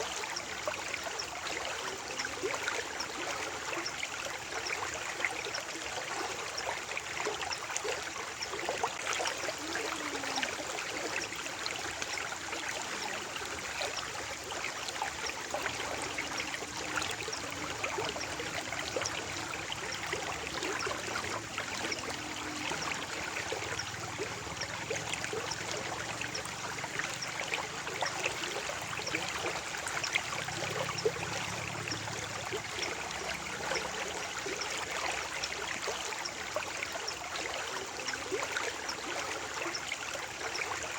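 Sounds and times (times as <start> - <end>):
shallow stream trickling: 0.0 - 40.9.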